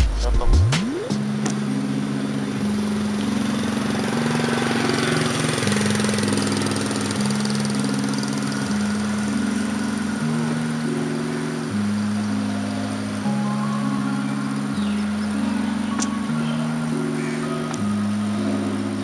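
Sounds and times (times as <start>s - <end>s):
low held synth notes: 0.0s - 19.0s.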